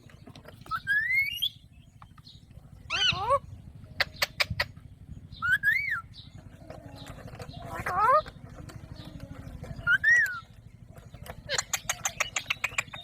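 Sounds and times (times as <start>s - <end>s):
parakeet calling: 0.6s - 9.1s, 9.7s - 13.0s.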